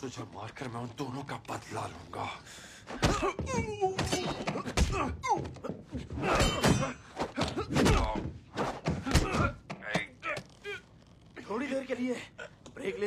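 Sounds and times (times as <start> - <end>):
men grunting and shouting: 2.1 - 13.0.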